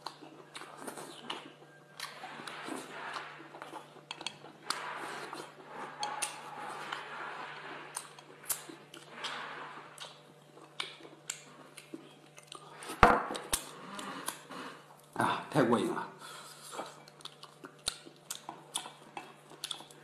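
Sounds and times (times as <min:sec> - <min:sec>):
wet chewing and smacking: 0:00.0 - 0:15.2, 0:16.8 - 0:20.0.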